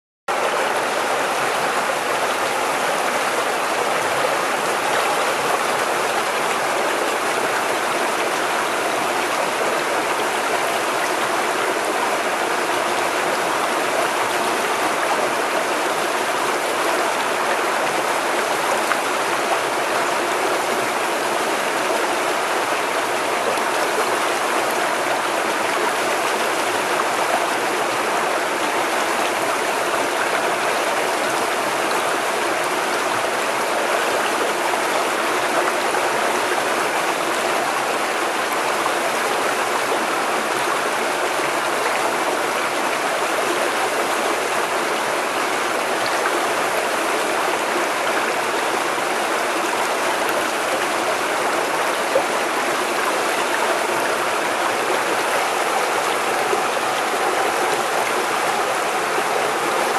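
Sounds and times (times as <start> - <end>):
stream splashing over stones: 0.3 - 59.9.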